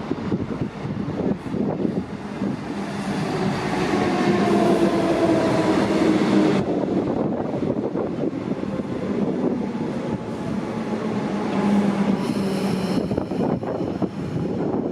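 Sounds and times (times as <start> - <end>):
electric train hum and whine: 0.0 - 14.9
rushing rail noise: 0.0 - 14.9.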